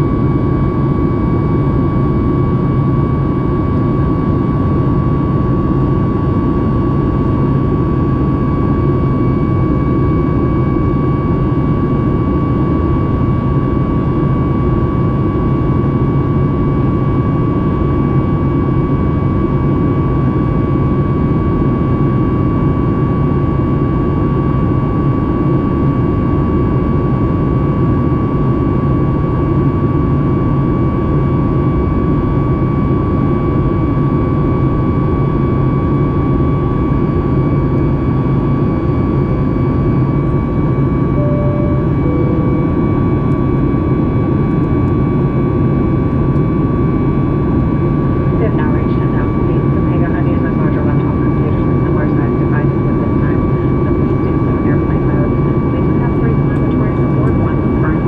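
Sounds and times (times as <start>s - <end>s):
airplane cabin roar: 0.0s - 58.0s
constant high whine: 0.0s - 58.0s.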